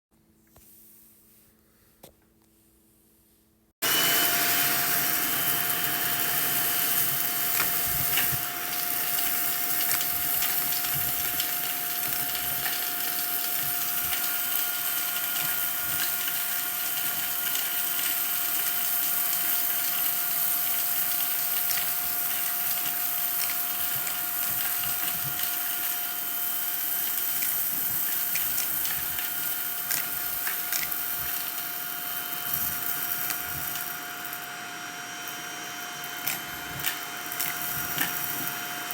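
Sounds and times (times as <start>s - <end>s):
vacuum cleaner whining: 3.8s - 38.9s.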